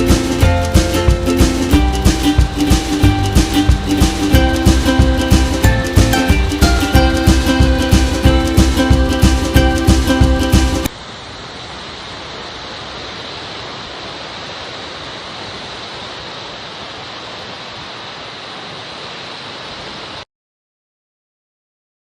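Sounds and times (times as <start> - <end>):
river water flowing: 0.0 - 20.2.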